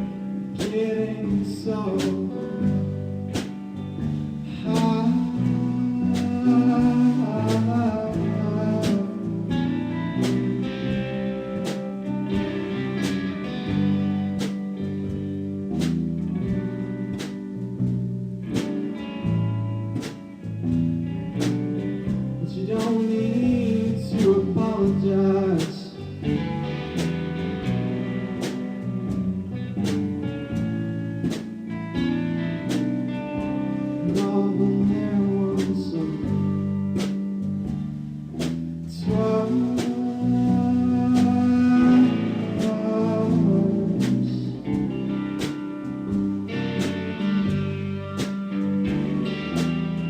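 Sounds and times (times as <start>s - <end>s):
guitar playing: 0.0s - 50.0s.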